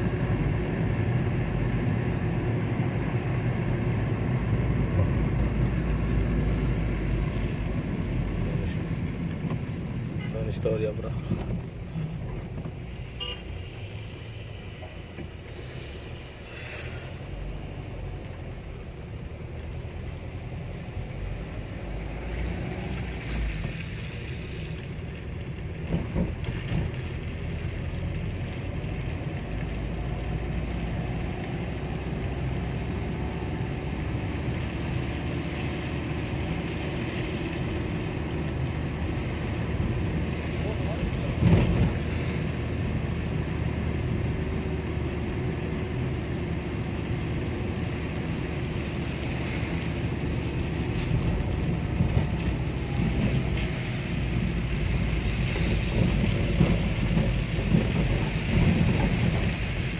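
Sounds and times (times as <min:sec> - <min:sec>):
car engine and road noise: 0:00.0 - 0:59.9
tyres on wet road: 0:00.0 - 0:59.9.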